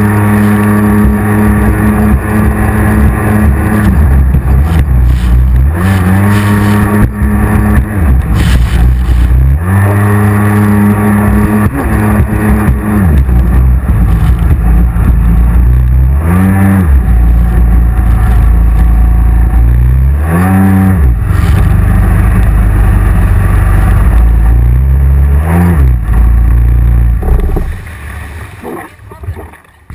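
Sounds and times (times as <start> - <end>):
jet ski engine revving: 0.0 - 29.1.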